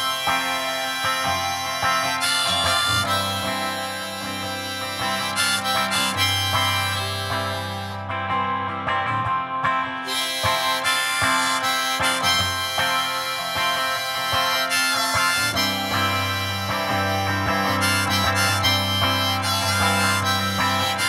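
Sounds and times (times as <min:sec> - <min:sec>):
harmonica solo: 0:00.0 - 0:08.8, 0:10.0 - 0:21.0
electric guitar strumming: 0:00.0 - 0:21.0.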